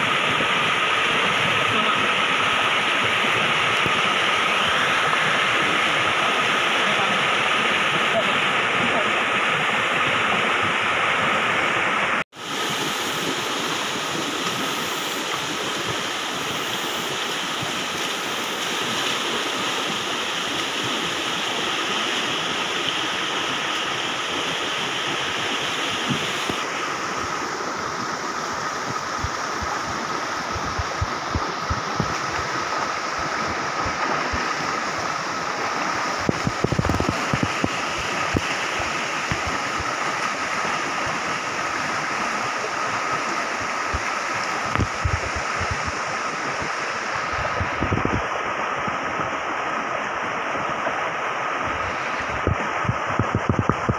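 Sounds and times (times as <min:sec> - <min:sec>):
water running over rocks: 0:00.0 - 0:53.9.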